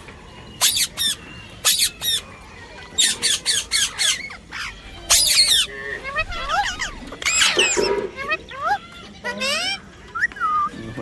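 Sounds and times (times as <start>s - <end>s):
parrot squawking: 0.6s - 11.0s.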